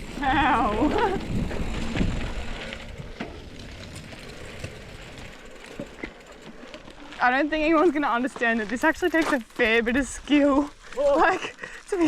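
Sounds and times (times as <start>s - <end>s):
bicycle rolling on dirt trail: 0.0s - 12.0s.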